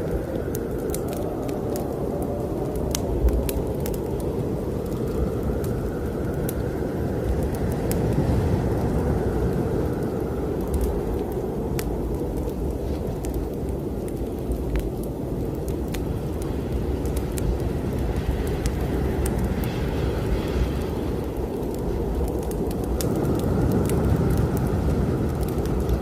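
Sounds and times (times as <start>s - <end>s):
fire crackling and popping: 0.0s - 26.0s
wind gusting: 0.0s - 26.0s.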